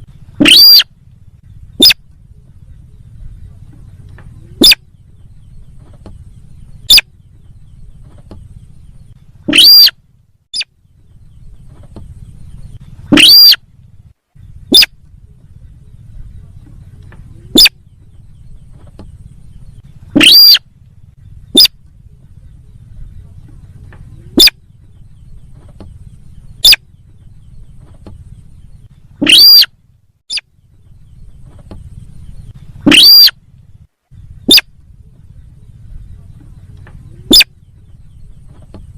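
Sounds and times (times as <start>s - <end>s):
bird calls: 0.0s - 38.9s
steady low hum: 0.0s - 38.9s.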